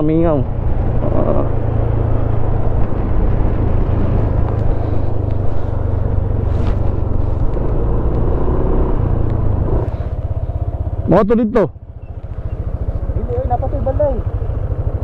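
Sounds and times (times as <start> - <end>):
motorcycle engine running: 0.2 - 15.0.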